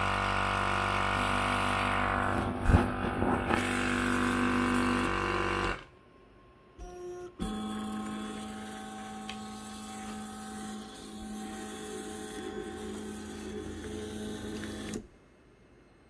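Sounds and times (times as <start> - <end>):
machine electric hum: 0.0 - 16.0.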